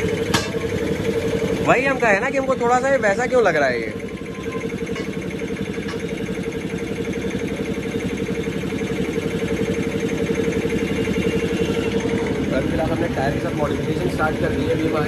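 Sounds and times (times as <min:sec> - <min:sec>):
small engine idling: 0:00.0 - 0:15.0.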